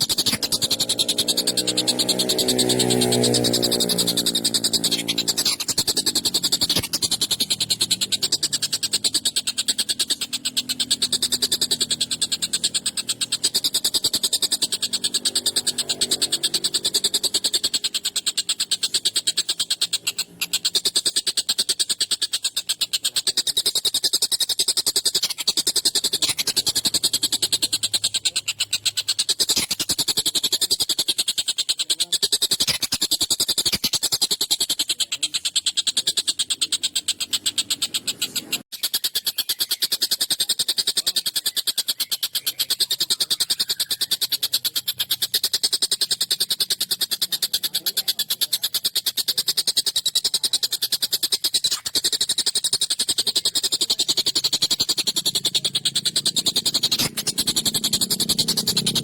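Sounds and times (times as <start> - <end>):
kingfisher rattling chatter: 0.0 - 59.0.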